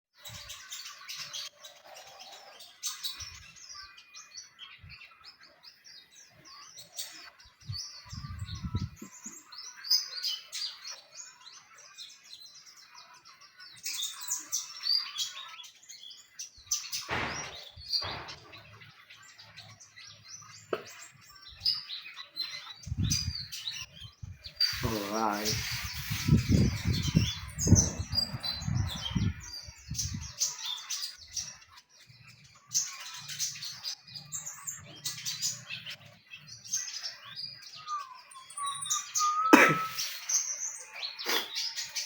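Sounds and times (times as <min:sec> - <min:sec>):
bird twittering song: 0:00.2 - 0:42.0.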